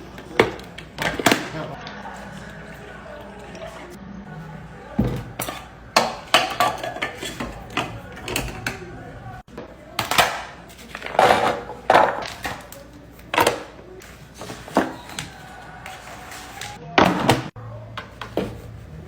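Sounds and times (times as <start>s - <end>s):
kitchen items clattering: 0.0s - 19.0s.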